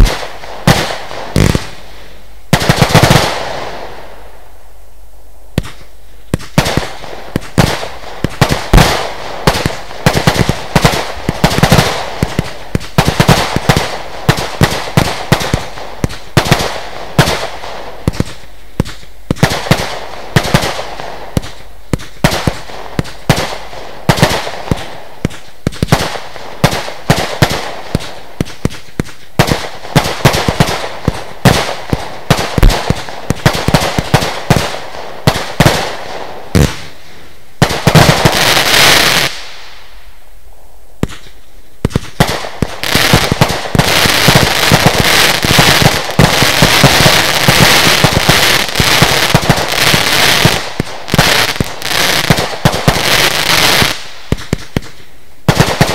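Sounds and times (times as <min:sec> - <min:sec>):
fireworks bangs and crackles: 0:00.0 - 0:04.5, 0:05.5 - 0:40.2, 0:41.0 - 0:55.9.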